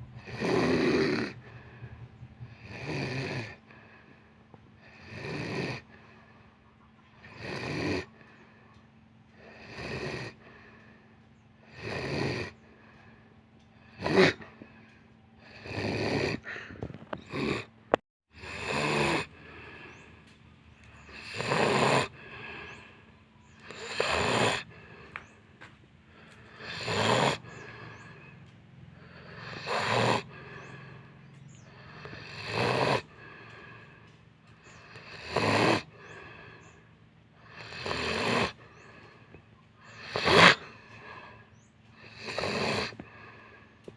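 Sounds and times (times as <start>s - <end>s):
person snoring heavily: 0.0s - 4.2s, 4.8s - 6.4s, 7.2s - 8.3s, 9.3s - 11.0s, 11.6s - 17.7s, 18.3s - 25.4s, 26.1s - 43.9s.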